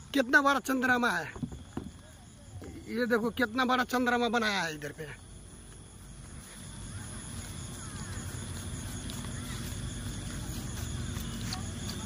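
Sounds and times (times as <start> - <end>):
outdoor background noise: 0.0 - 12.0
faint distant voices: 1.1 - 12.0.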